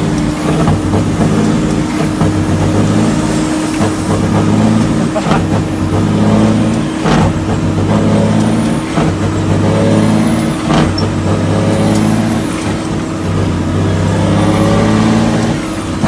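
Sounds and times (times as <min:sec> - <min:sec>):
truck diesel engine shifting gears: 0:00.0 - 0:16.0.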